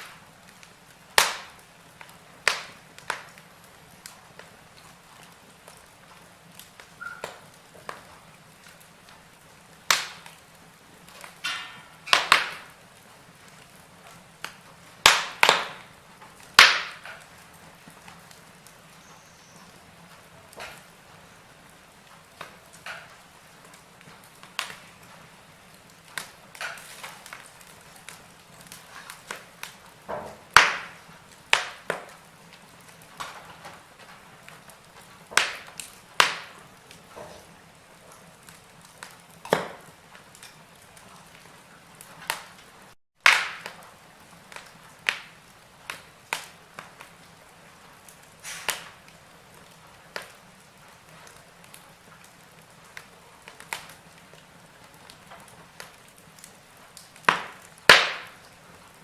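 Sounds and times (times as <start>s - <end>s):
faint steady hiss: 0.0s - 59.0s
fire crackling and popping: 0.0s - 59.0s.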